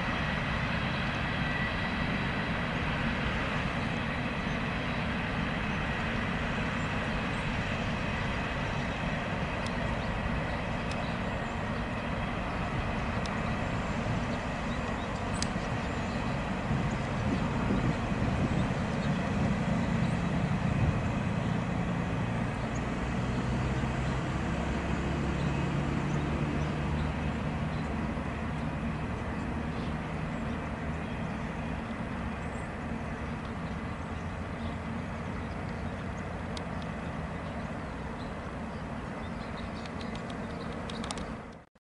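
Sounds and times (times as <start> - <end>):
freight train rumbling: 0.0 - 41.6.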